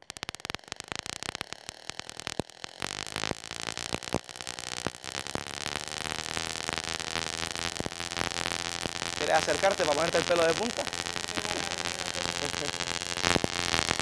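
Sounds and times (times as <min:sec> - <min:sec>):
tesla coil crackling sparks: 0:00.0 - 0:14.0.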